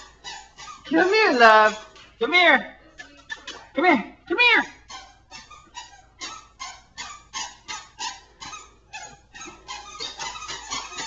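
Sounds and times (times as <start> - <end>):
squeaky shoes squeaking: 0.0 - 2.2, 3.0 - 3.8, 4.7 - 11.0.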